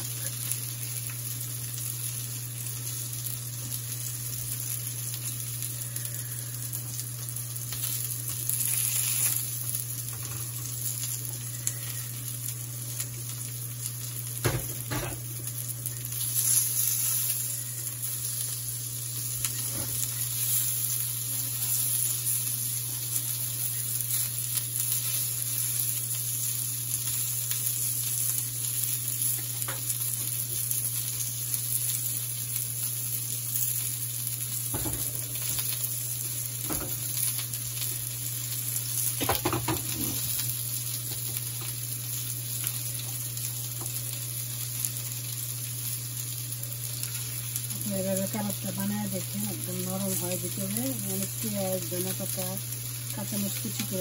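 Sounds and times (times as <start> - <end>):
patties sizzling in hot oil: 0.0 - 54.0.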